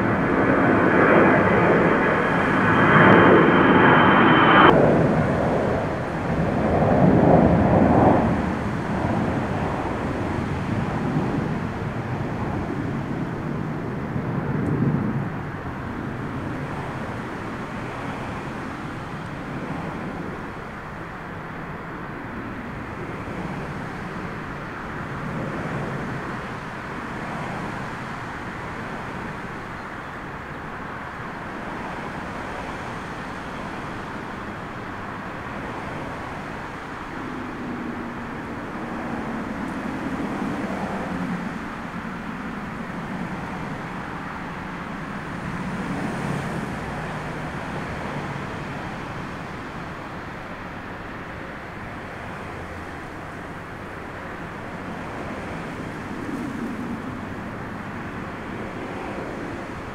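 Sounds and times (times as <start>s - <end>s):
storm wind buffeting microphone: 0.0s - 59.9s.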